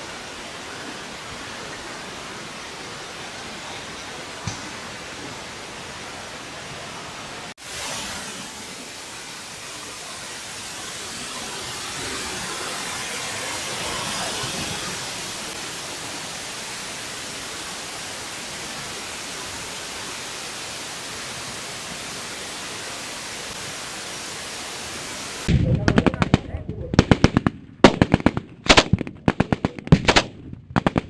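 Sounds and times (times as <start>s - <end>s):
steady hissing noise: 0.0s - 31.0s.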